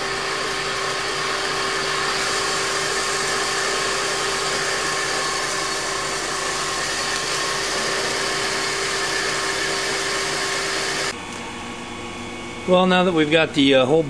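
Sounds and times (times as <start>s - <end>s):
metal lathe hum and whine: 0.0s - 14.0s.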